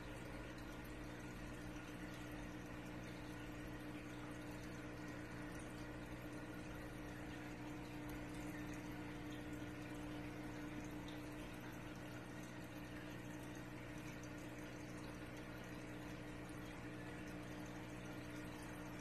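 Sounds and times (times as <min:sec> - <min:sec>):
aquarium pump humming: 0:00.0 - 0:19.0
water trickling and bubbling: 0:00.0 - 0:19.0.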